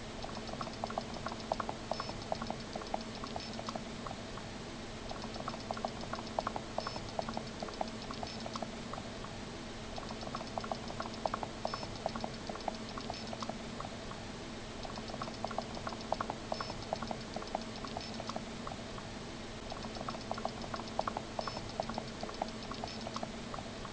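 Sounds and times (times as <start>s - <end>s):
steady low hum: 0.0s - 23.9s
light clicking and tapping: 0.2s - 4.5s, 5.1s - 9.4s, 10.0s - 14.2s, 14.8s - 19.1s, 19.7s - 23.9s.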